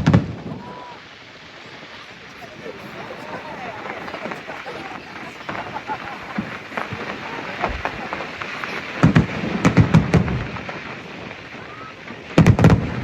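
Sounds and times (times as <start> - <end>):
murmur of people talking: 0.0 - 13.0
fireworks bursting: 1.4 - 13.0.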